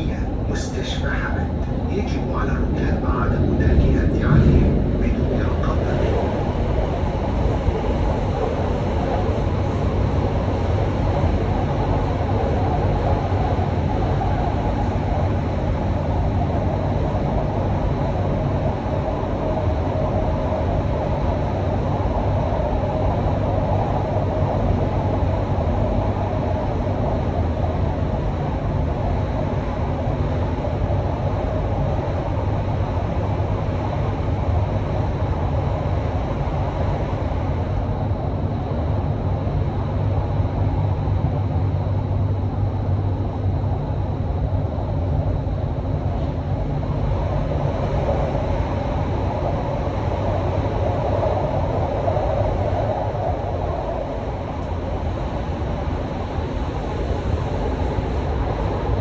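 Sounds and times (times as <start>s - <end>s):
train rumbling through tunnel: 0.0s - 59.0s.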